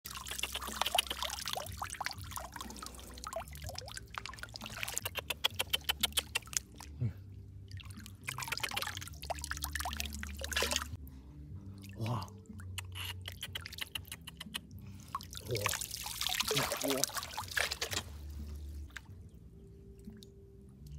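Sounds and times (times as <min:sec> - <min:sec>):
water splashing and dripping: 0:00.0 - 0:07.0, 0:07.6 - 0:11.0, 0:11.8 - 0:20.9.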